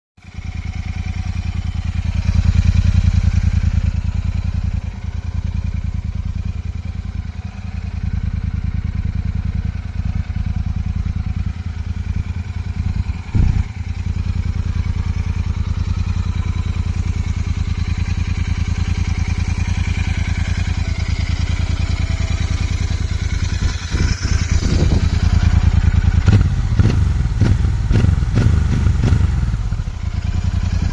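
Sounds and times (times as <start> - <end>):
motorcycle exhaust idling: 0.2 - 30.9.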